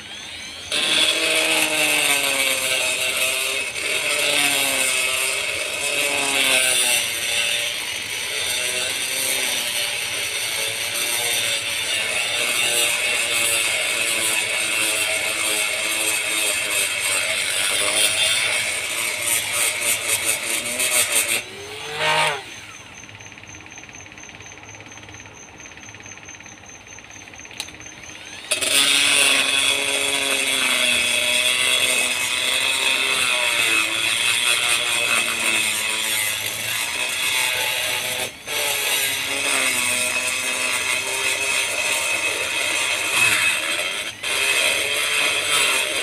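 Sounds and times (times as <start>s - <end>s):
rotary grinder whining on metal: 0.0s - 46.0s.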